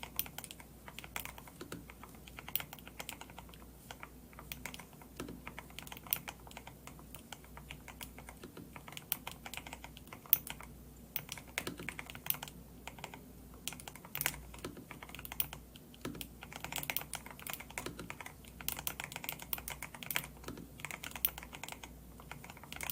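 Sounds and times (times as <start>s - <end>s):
mechanical keyboard typing: 0.0s - 22.9s.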